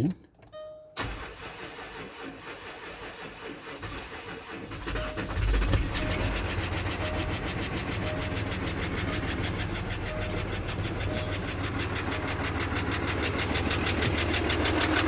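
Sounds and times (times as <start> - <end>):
engine cranking on starter: 1.0 - 15.0
diesel engine idling with knock: 2.7 - 15.0.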